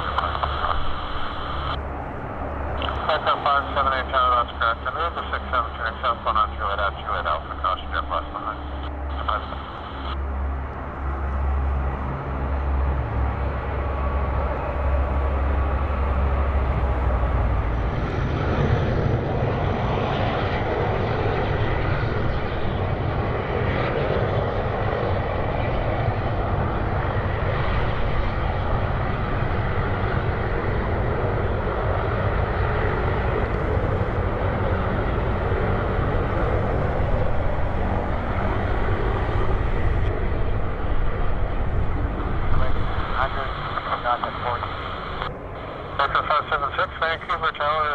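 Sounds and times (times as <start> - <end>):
airplane engines roaring: 0.0 - 47.9.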